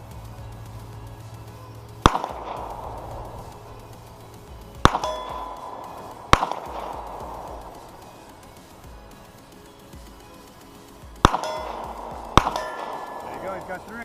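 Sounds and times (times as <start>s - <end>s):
gunshots echoing: 0.8s - 14.0s.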